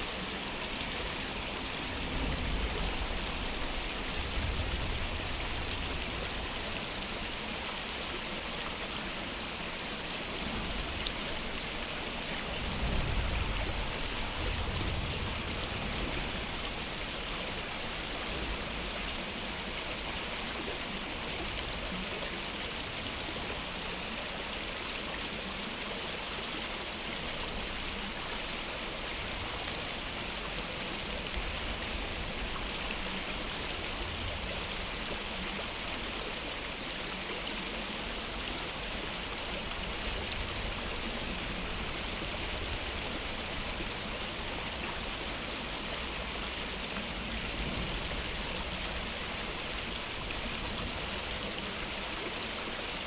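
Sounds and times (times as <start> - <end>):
stream of water running: 0.0 - 53.0.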